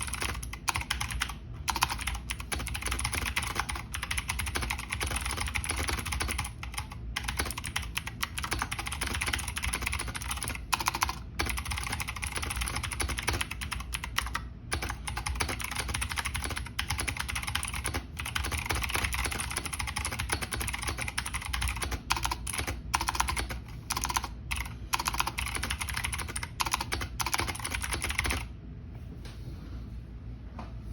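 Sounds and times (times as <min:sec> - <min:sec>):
fast typing on clicky keyboard: 0:00.0 - 0:28.5.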